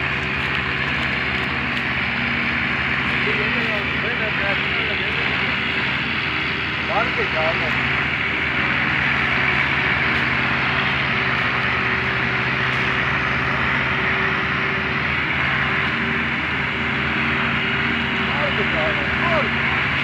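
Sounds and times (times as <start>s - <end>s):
tractor engine labouring: 0.0s - 20.0s.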